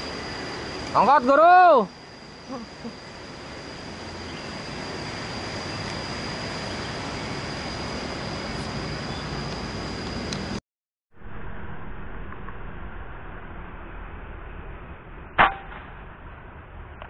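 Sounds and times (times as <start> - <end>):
steady outdoor hiss: 0.0 - 10.6, 11.2 - 17.0
high-pitched whine: 0.0 - 17.0.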